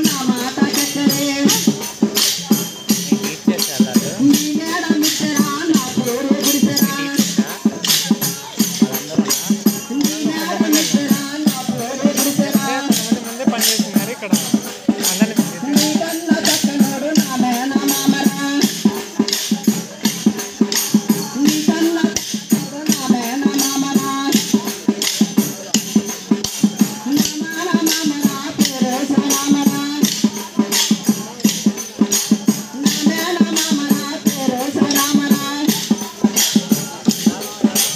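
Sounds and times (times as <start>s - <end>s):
folk melody singing: 0.0s - 37.9s.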